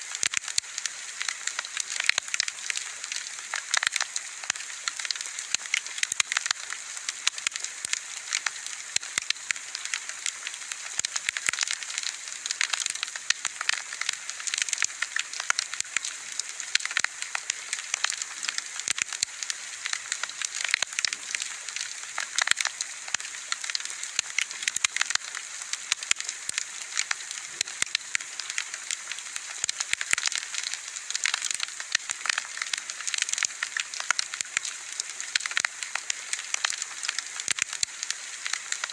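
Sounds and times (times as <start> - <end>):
wood fire crackling and popping: 0.2 - 38.9.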